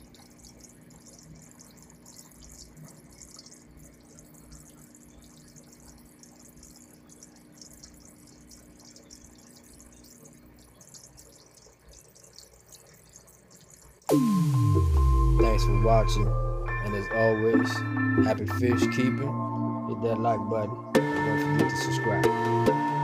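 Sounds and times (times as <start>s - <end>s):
aquarium bubbling: 0.0s - 18.8s
low steady hum: 0.0s - 22.3s.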